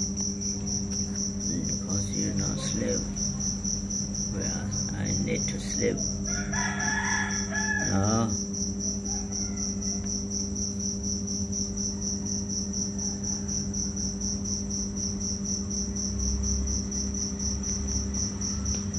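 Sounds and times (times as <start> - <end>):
insect chirping: 0.0 - 18.9
steady low hum: 0.0 - 18.9.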